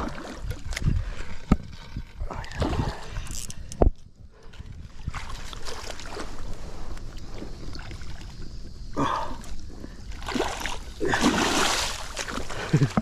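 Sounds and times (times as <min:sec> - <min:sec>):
water sloshing in a stream: 0:00.0 - 0:13.0.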